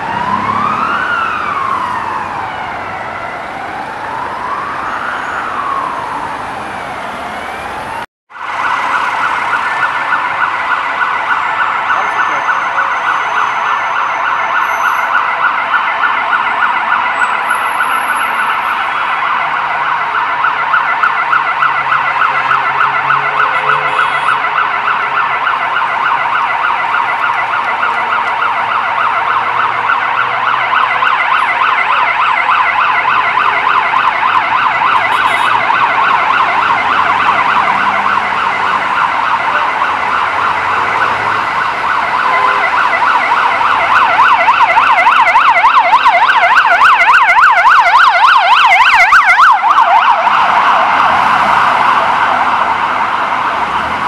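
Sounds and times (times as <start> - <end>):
emergency sirens yelping: 0.0 - 54.0.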